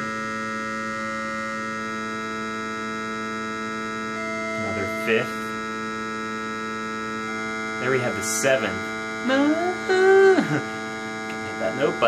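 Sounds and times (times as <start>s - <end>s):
buzzing sine tone hum: 0.0s - 12.0s.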